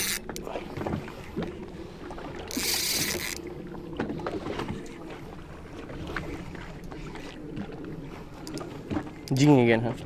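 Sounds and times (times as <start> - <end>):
low rumble of hull and water: 0.0 - 10.0.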